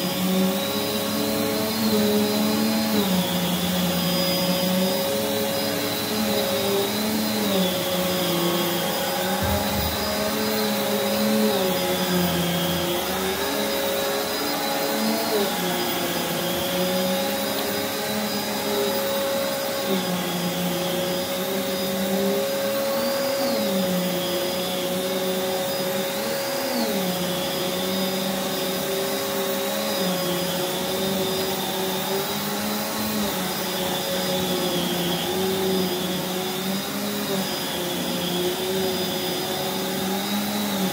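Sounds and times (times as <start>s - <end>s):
vacuum cleaner running on carpet: 0.0s - 40.9s.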